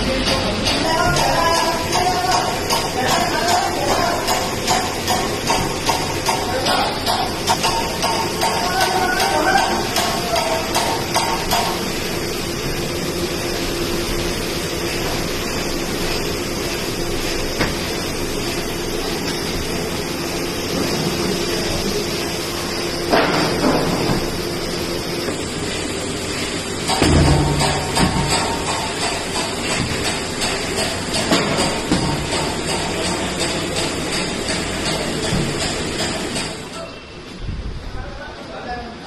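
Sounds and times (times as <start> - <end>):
steady noise: 0.0 - 39.0.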